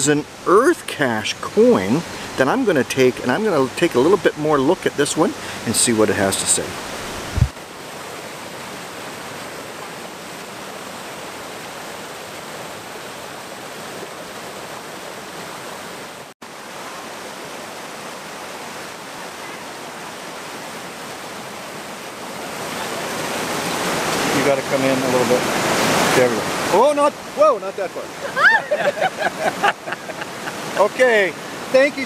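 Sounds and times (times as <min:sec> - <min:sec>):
waterfall rushing over rocks: 0:00.0 - 0:32.0.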